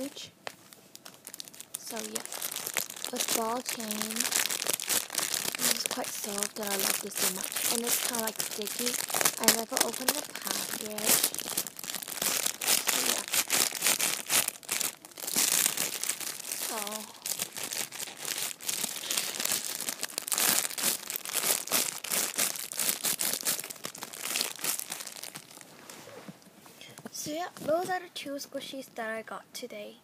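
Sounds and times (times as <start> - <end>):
plastic packaging crinkling: 0.0 - 25.9.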